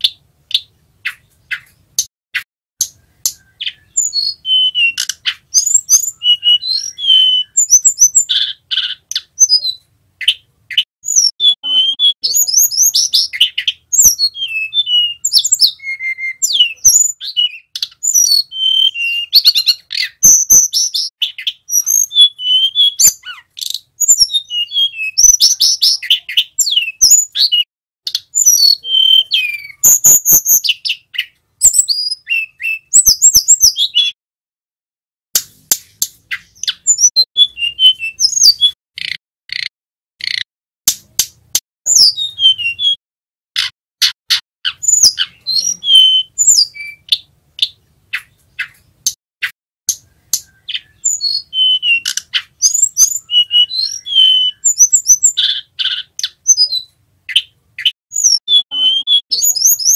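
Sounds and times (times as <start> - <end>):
bird singing whistled trills: 2.9 - 34.2, 36.3 - 39.2, 41.9 - 43.0, 44.7 - 48.8, 49.4 - 59.9.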